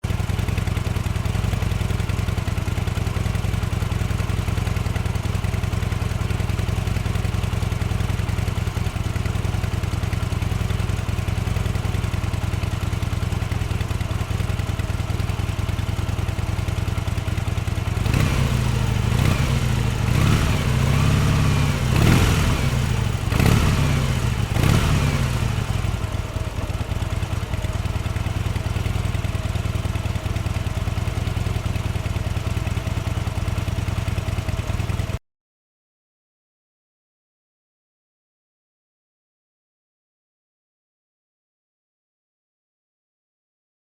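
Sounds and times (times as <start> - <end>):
motorcycle engine idling and revving: 0.0 - 35.2.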